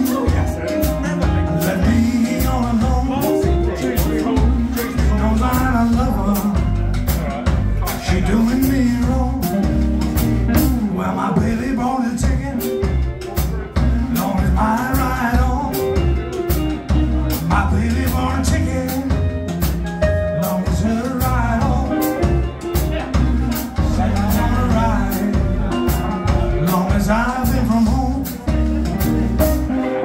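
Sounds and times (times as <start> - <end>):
blues band playing: 0.0 - 30.0
drums keeping a steady beat: 0.0 - 30.0.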